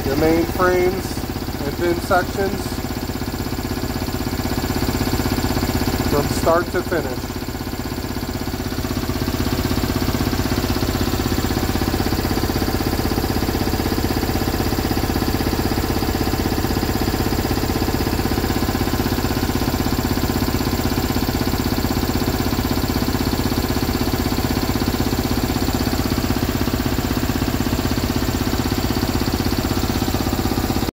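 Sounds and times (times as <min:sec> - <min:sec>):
engine running with fast pulse: 0:00.0 - 0:30.9.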